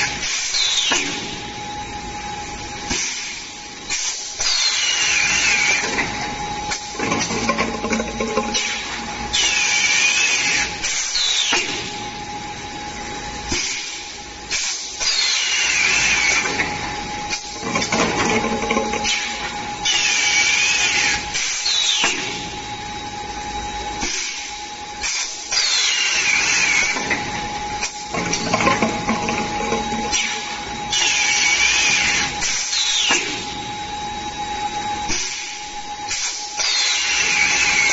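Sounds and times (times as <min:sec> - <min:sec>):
steady machine hum: 0:00.0 - 0:37.9.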